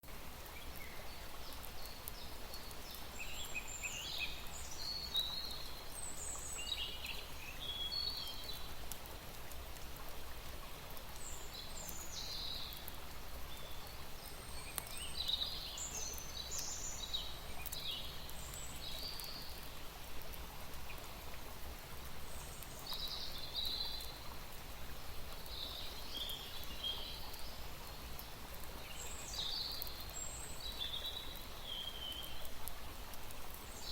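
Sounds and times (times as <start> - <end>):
small birds chirping: 0.4 - 8.9, 11.1 - 21.2, 22.1 - 33.9.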